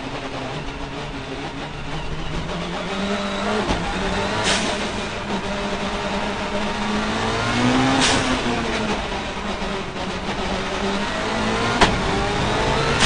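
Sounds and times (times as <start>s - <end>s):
race car engine: 0.0s - 13.0s.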